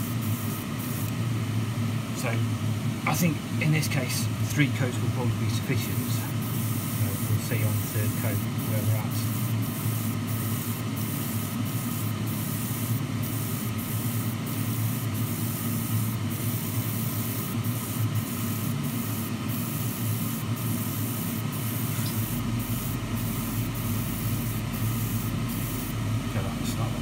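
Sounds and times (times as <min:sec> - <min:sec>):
airbrush hissing: 0:00.0 - 0:01.2, 0:05.5 - 0:27.0
steady low hum: 0:00.0 - 0:27.0.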